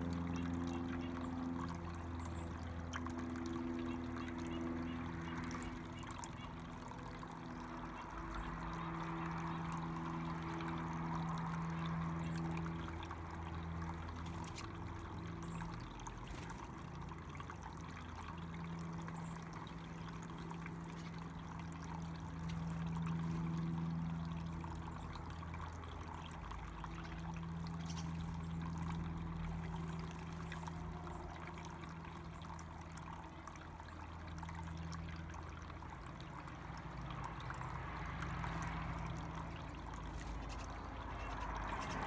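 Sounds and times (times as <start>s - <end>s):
water trickling and splashing: 0.0s - 42.0s.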